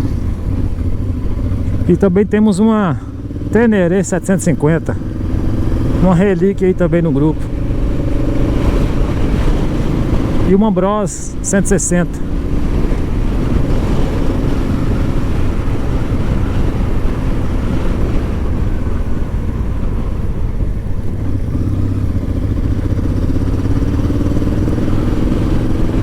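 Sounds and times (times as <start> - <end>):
motorcycle engine: 0.0 - 26.0
wind rumble on microphone: 0.0 - 26.0.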